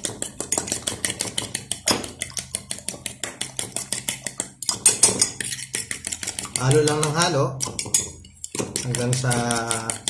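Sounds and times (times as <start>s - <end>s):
utensil clicking against bowl: 0.0s - 10.0s
utensil scraping bowl: 0.0s - 10.0s.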